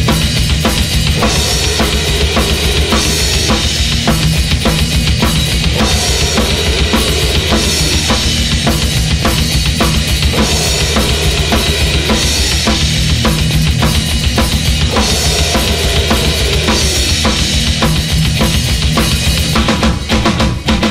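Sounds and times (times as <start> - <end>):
heavy metal music: 0.0 - 20.9.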